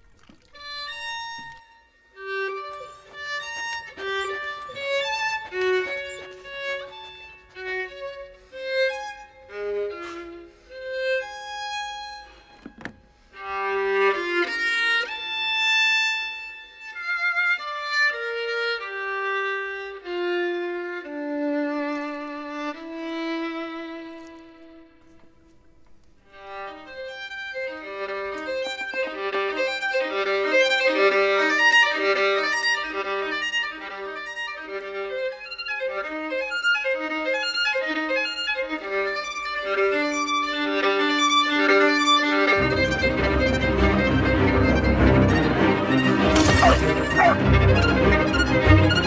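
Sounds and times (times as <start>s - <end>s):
violin melody: 0.2s - 25.5s, 26.2s - 49.0s.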